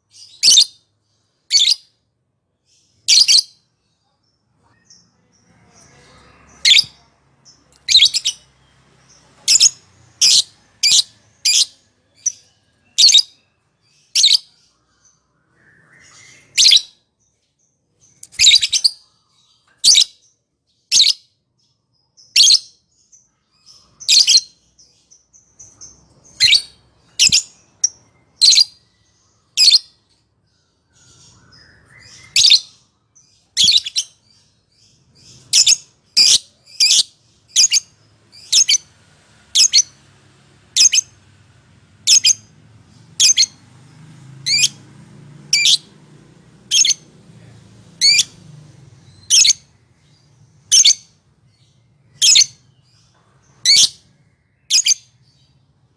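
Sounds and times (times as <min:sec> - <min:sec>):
lovebird chirping: 0:00.0 - 0:02.0, 0:02.6 - 0:40.1, 0:40.7 - 0:41.2, 0:42.0 - 0:46.0, 0:46.7 - 0:47.2, 0:48.0 - 0:55.6.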